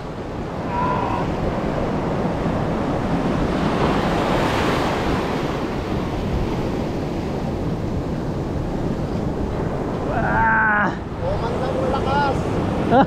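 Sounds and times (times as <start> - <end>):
surf washing over rocks: 0.0 - 13.0
wind rumbling on microphone: 0.0 - 13.0.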